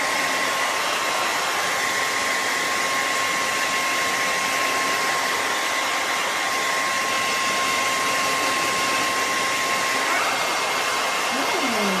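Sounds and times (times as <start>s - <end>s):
hair dryer blowing air: 0.0s - 12.0s
hair dryer motor whine: 0.0s - 12.0s.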